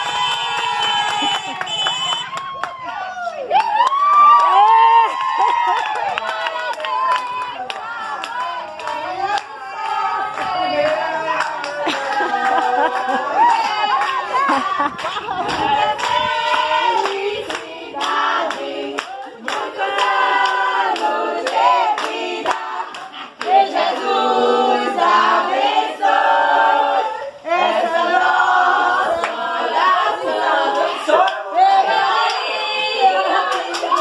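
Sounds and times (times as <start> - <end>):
women singing in chorus: 6.3 - 34.0.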